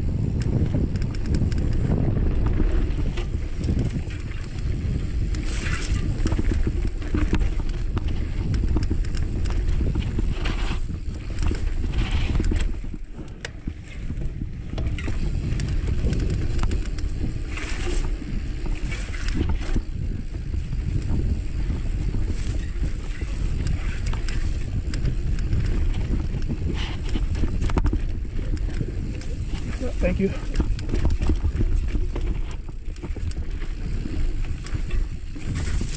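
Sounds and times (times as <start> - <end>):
bike clicks and rattles: 0.0 - 35.9
bike tyres rumbling on dirt: 0.0 - 35.9
wind buffeting microphone: 0.0 - 35.9.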